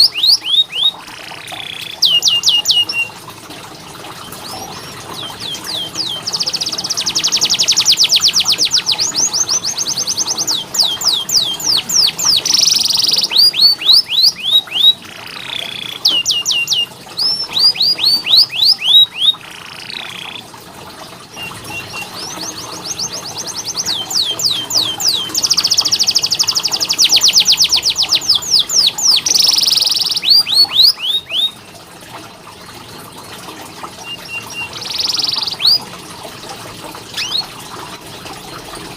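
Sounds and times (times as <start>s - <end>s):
canary singing trills: 0.0s - 3.2s, 4.2s - 20.4s, 21.3s - 31.6s, 34.0s - 35.9s, 37.2s - 37.6s.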